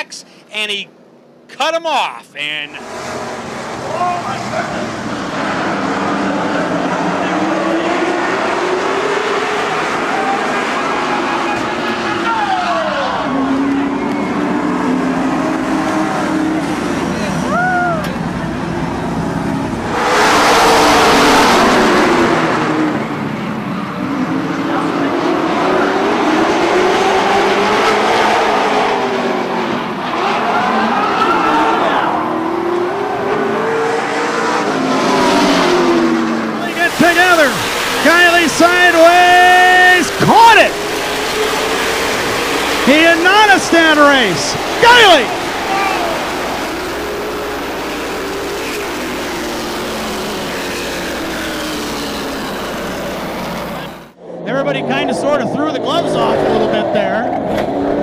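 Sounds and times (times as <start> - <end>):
racing car engines roaring: 2.4 - 58.0.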